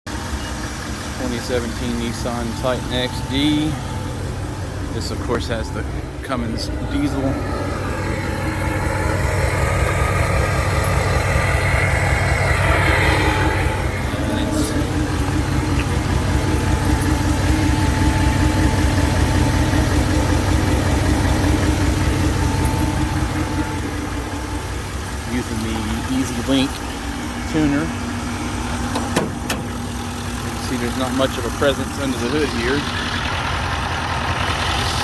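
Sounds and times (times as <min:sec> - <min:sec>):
diesel truck idling: 0:00.1 - 0:35.0
high whine: 0:01.2 - 0:30.7.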